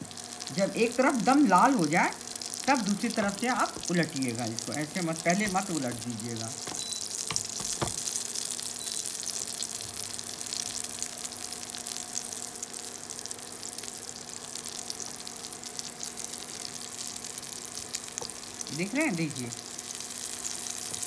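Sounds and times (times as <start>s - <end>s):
oil sizzling on a griddle: 0.0s - 21.0s.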